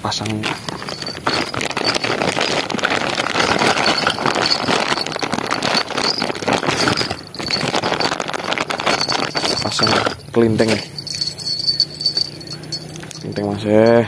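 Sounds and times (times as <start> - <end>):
plastic bag crinkling: 0.1 - 13.4.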